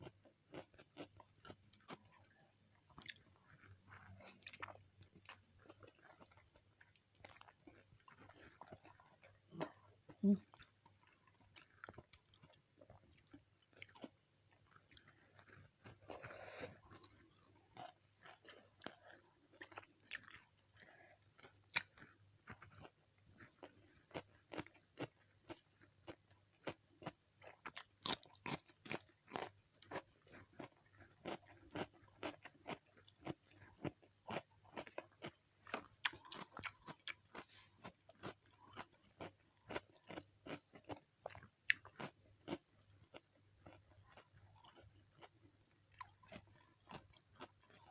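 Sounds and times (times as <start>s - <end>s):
crunchy chewing: 0.0s - 47.9s.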